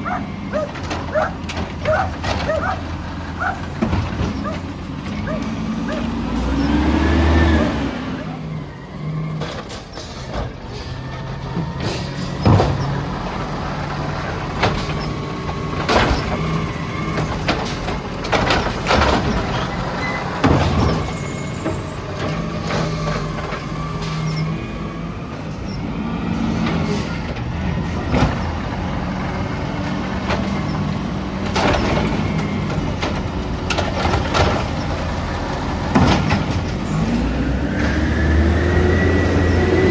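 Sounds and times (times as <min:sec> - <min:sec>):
truck engine hum: 0:00.0 - 0:39.9.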